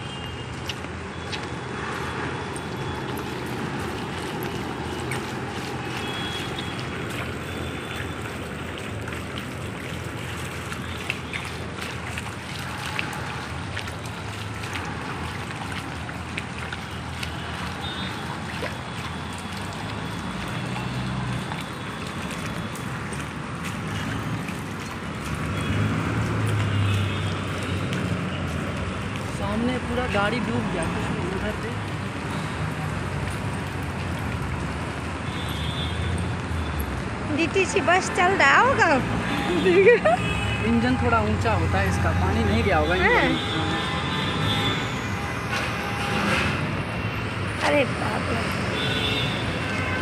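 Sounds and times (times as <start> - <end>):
feet wading through water: 0.0 - 50.0.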